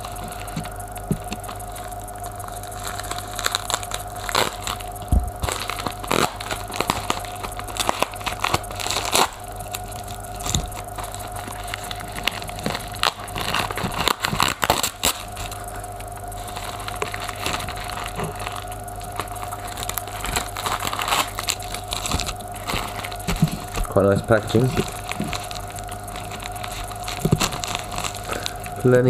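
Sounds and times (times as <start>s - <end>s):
packaging crunching and crackling: 0.0s - 29.0s.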